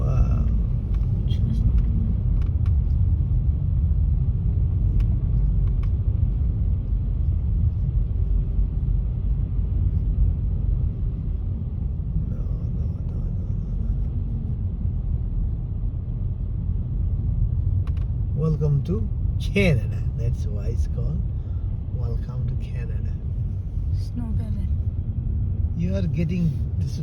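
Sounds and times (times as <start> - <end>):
car cabin road noise: 0.0 - 27.0.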